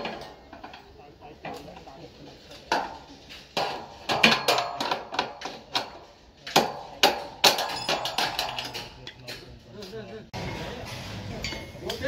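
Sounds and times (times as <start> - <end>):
metal knocks and clanks: 0.0 - 1.9, 2.5 - 12.0.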